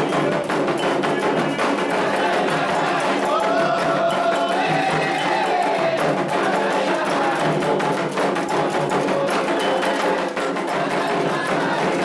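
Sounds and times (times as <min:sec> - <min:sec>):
hand drums beating: 0:00.0 - 0:12.0
voices singing a chant: 0:00.0 - 0:12.0.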